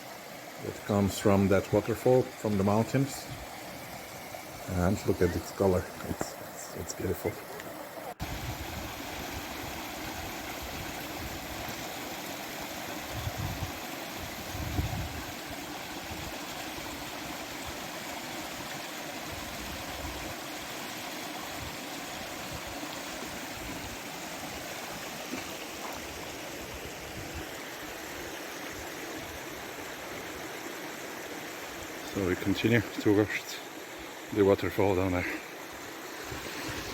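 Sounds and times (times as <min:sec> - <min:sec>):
stream rushing over rocks: 0:00.0 - 0:36.9.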